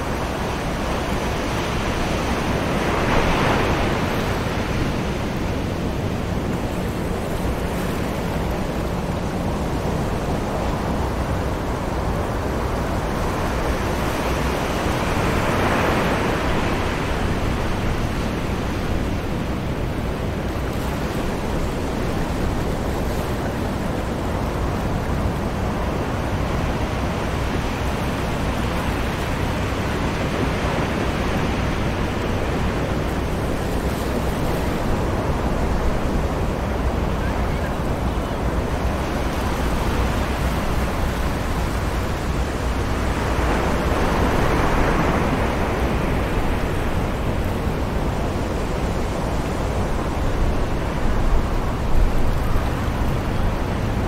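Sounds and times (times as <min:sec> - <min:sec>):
distant surf washing: 0:00.0 - 0:54.0
waves breaking: 0:00.0 - 0:54.0.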